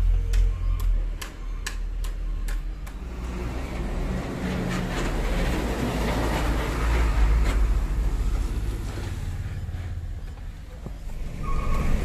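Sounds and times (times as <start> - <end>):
diesel truck engine rumble: 0.0 - 12.0
road and wind noise: 0.0 - 12.0.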